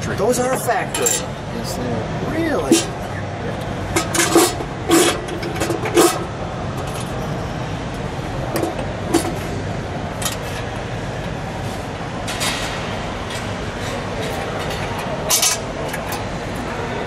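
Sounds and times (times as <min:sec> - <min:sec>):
hum of busy hall: 0:00.0 - 0:17.0.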